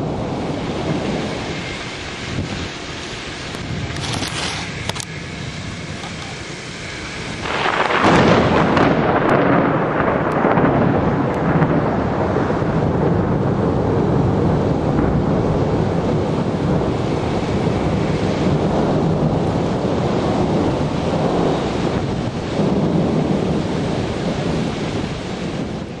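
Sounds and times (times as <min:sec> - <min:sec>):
thunder rumbling: 0:00.0 - 0:26.0.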